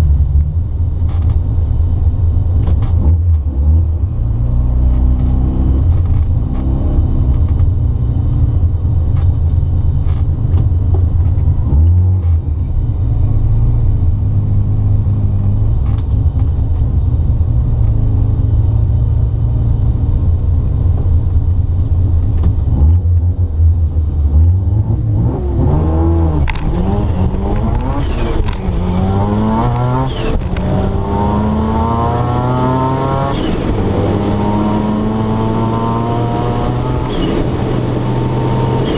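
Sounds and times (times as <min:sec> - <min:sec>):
rotary engine idling and accelerating: 0:00.0 - 0:38.9.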